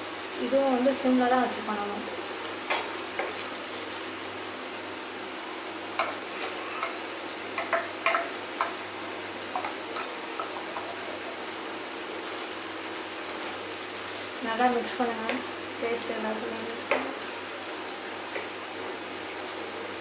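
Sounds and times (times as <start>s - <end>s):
gravy sizzling in a metal pan: 0.0s - 20.0s.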